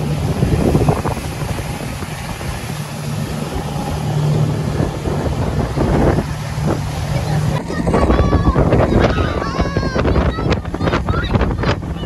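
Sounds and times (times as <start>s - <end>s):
motorboat motor running: 0.0s - 12.0s
wind and water rushing: 0.0s - 12.0s.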